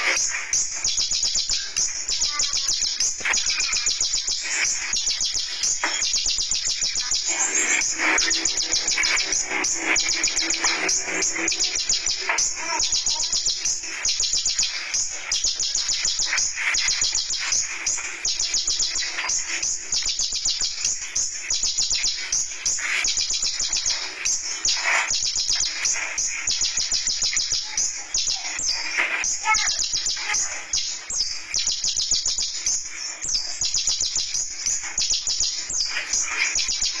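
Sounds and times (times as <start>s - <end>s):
bird singing high sharp chirps: 0.0s - 37.0s.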